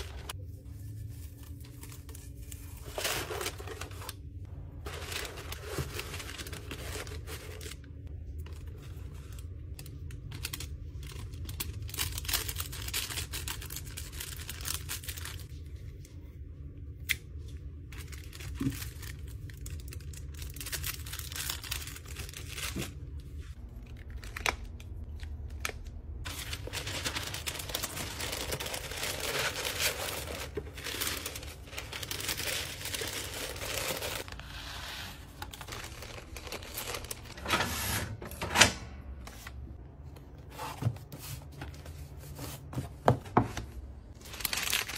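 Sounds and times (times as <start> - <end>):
paper rustling and crinkling: 0.0 - 16.1, 17.4 - 38.2, 40.4 - 44.9.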